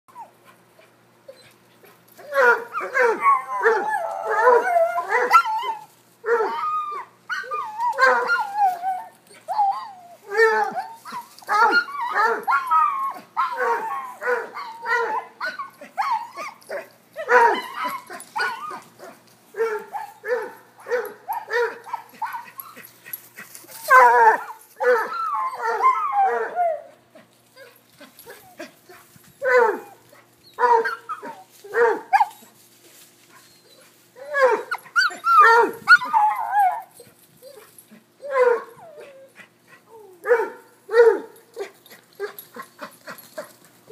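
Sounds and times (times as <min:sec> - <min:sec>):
dog baying and barking: 0:02.2 - 0:27.0, 0:27.6 - 0:32.5, 0:33.4 - 0:43.9.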